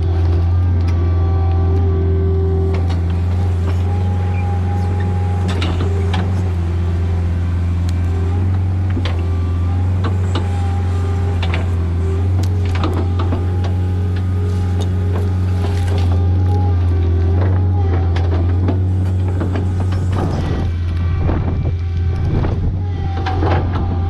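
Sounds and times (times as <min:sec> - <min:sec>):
excavator diesel engine running: 0:00.0 - 0:24.0
stump shear cracking wood: 0:00.0 - 0:24.0.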